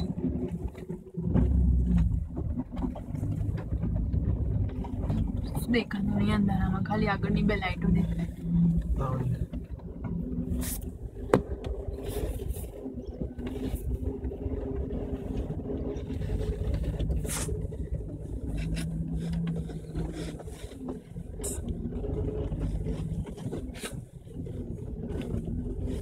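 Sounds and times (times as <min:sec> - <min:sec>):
car engine running at low revs: 0:00.0 - 0:26.0
vehicle knocks and rattles: 0:00.0 - 0:26.0.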